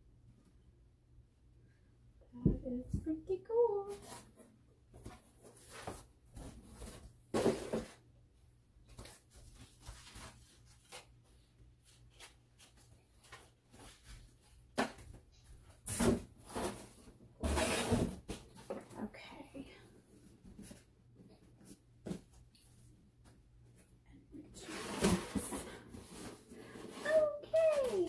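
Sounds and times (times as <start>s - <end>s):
kitchenware and packaging rustling: 2.5s - 8.1s, 8.9s - 22.4s, 24.5s - 28.0s.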